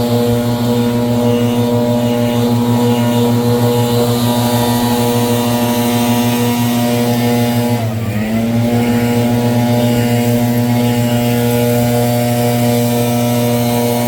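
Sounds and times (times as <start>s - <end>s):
leaf blower engine running: 0.0s - 14.0s.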